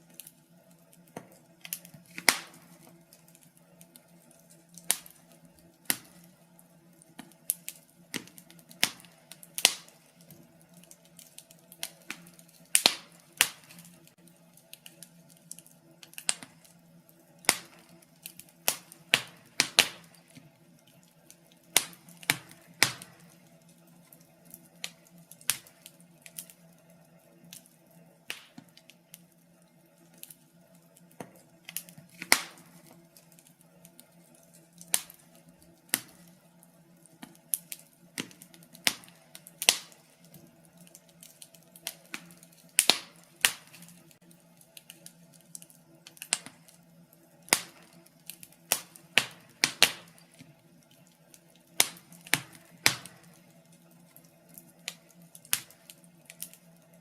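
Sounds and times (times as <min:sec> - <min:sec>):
fire popping and snapping: 0:00.0 - 0:57.0
wood fire crackling: 0:00.0 - 0:57.0.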